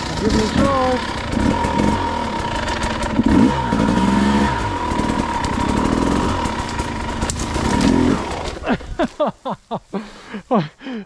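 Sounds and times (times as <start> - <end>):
dirt bike engine revving: 0.0 - 8.9.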